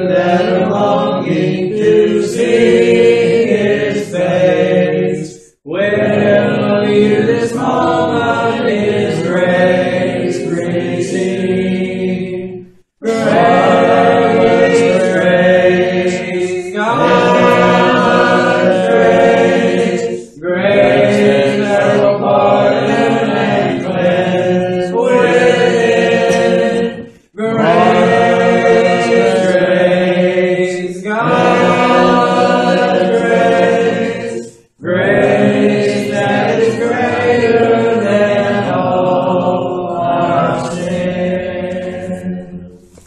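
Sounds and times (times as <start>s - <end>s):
congregation singing a hymn: 0.0s - 43.0s.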